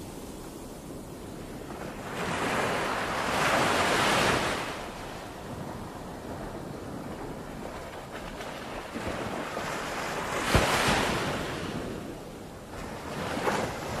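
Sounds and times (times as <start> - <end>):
waves breaking on beach: 0.0 - 14.0.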